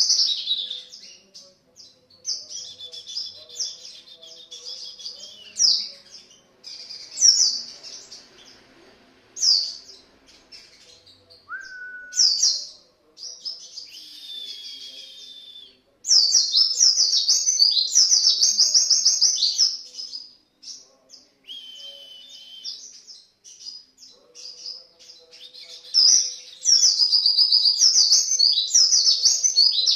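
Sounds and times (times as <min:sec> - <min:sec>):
bird chirping and twittering: 0:00.0 - 0:08.7, 0:09.4 - 0:15.0, 0:16.0 - 0:29.9.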